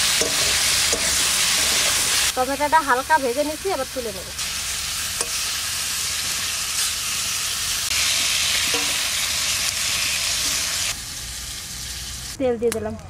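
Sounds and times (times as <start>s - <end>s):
tomato slices sizzling in oil: 0.0s - 12.4s.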